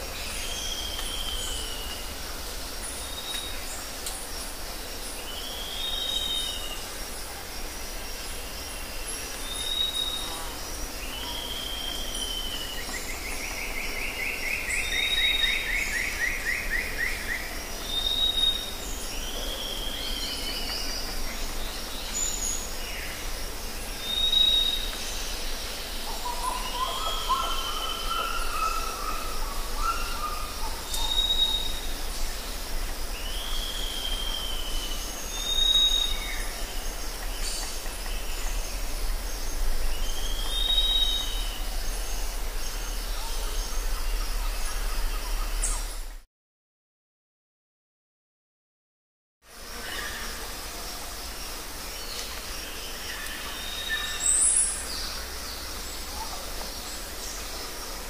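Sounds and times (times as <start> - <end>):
high insect hiss: 0.0 - 46.2, 49.5 - 58.0.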